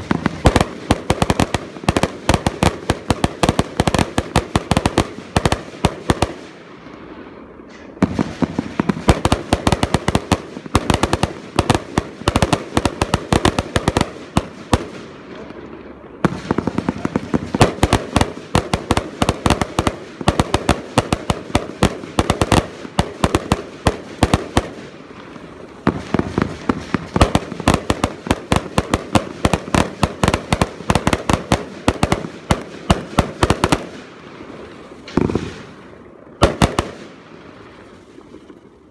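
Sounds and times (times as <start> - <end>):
multi-shot firework bangs: 0.0 - 6.7, 7.6 - 15.6, 16.2 - 34.2, 35.0 - 37.3.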